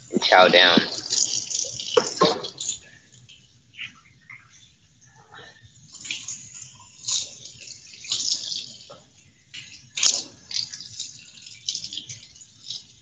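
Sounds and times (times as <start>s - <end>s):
watery rustling of food: 0.0s - 13.0s.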